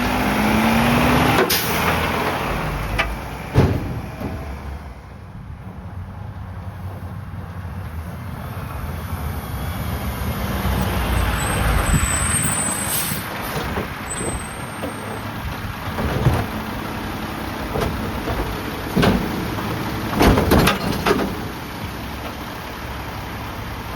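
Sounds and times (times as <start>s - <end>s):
garbage truck engine rumble: 0.0s - 23.9s.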